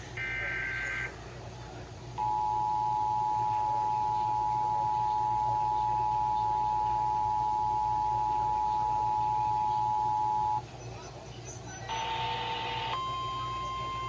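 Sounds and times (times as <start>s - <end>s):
radio hiss: 0.0s - 10.6s, 11.7s - 14.0s.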